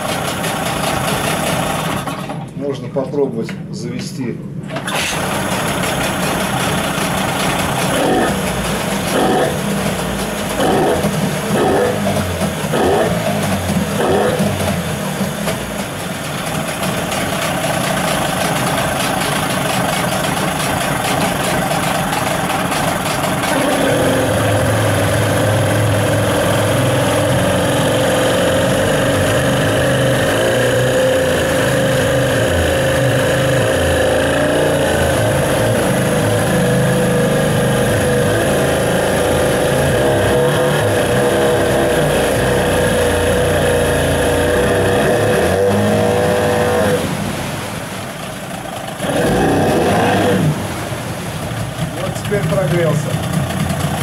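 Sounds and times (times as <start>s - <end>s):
outboard engine running unevenly: 0.0s - 3.0s, 4.6s - 54.0s.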